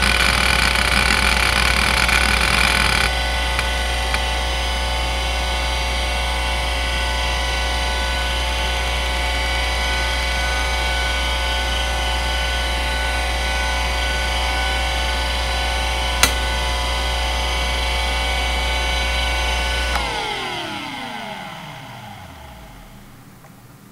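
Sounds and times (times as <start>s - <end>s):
hard drive whine: 0.0s - 23.9s.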